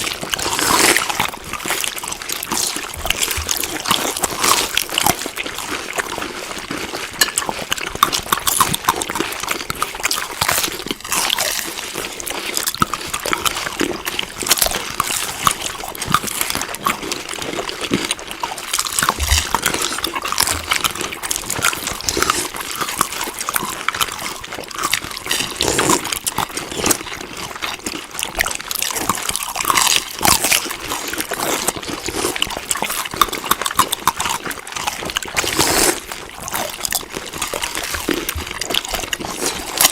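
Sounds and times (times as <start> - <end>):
close chewing of food: 0.0 - 39.9.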